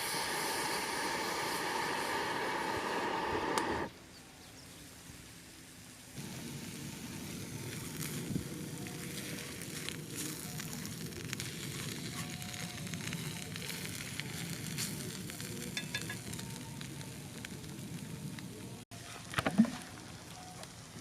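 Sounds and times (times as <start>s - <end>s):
campfire crackling and popping: 0.0s - 3.9s, 6.2s - 21.0s.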